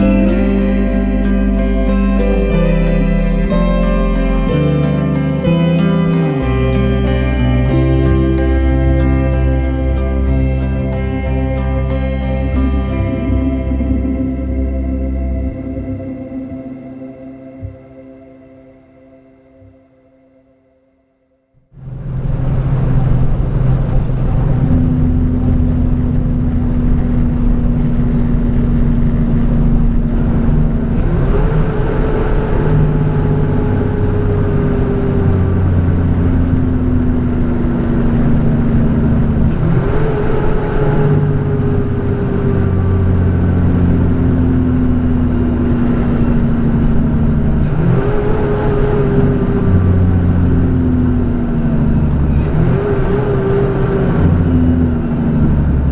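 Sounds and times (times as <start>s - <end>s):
truck engine revving: 0.0s - 18.4s, 21.7s - 55.9s
low road rumble: 0.0s - 20.2s, 21.6s - 55.9s.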